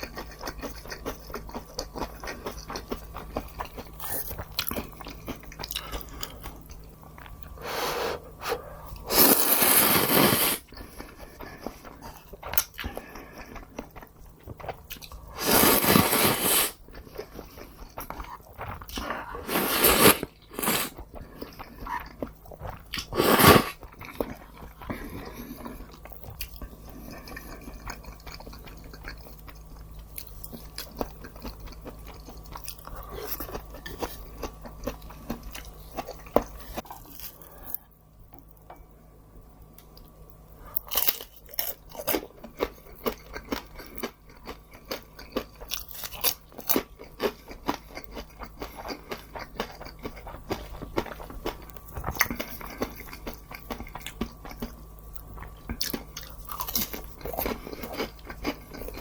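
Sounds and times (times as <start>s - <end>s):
crunchy chewing of fried food: 0.0s - 59.0s.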